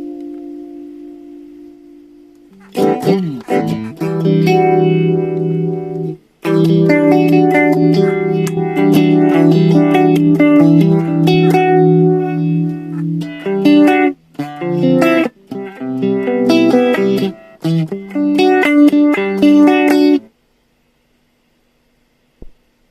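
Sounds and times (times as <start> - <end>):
clean electric guitar chords: 0.0 - 20.3
faint hum: 0.0 - 22.9.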